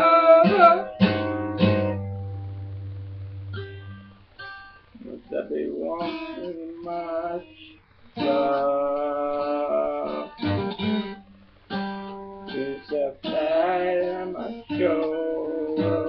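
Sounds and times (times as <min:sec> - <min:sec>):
acoustic guitar strummed chords: 0:00.0 - 0:16.0.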